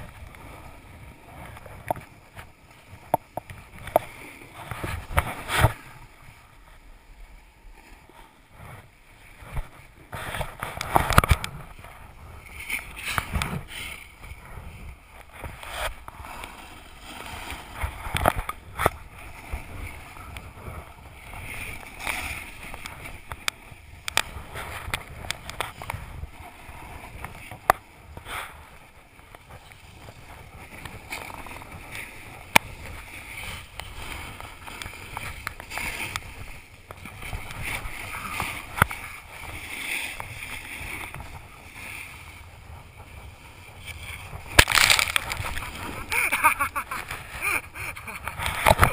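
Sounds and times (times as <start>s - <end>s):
snowboard scraping over snow: 0.0s - 48.9s
wind rumbling on microphone: 0.0s - 48.9s.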